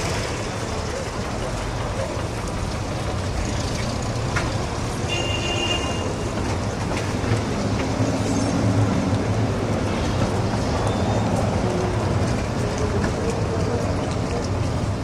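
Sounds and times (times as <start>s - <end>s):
city street traffic: 0.0s - 15.0s
tram rumbling on tracks: 0.0s - 15.0s.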